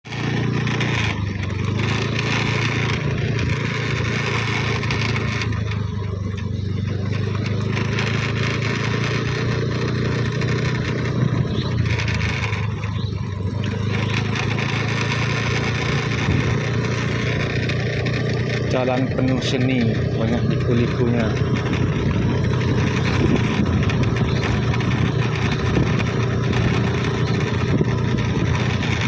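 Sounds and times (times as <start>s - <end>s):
vehicle engine running: 0.0s - 29.0s
tyres crunching on gravel: 0.1s - 29.0s.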